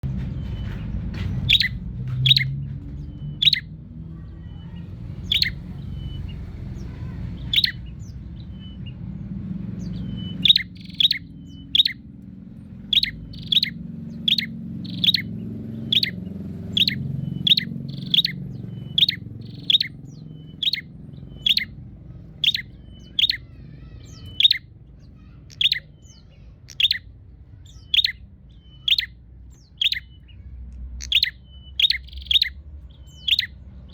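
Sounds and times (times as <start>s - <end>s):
bird chip calls: 0.0s - 33.9s.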